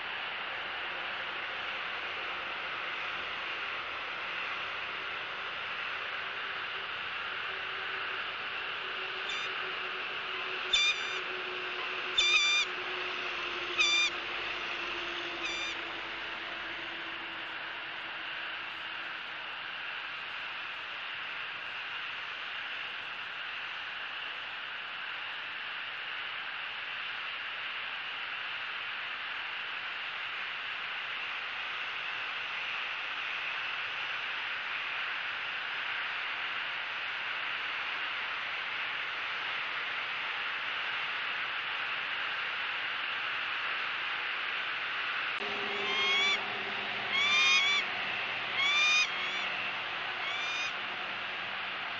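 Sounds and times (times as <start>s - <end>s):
outdoor background hiss: 0.0s - 51.9s.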